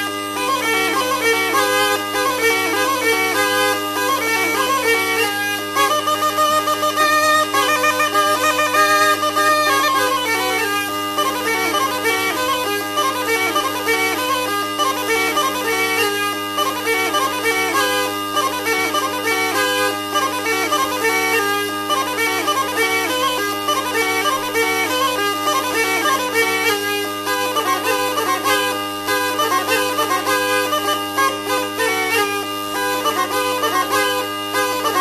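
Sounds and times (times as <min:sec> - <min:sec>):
reed-pipe music with drone: 0:00.0 - 0:35.0.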